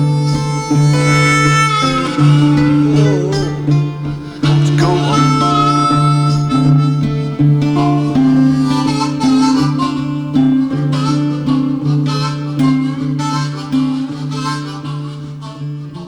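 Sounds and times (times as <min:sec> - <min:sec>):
acoustic guitar: 0:00.0 - 0:16.0
harmonica: 0:00.0 - 0:16.0.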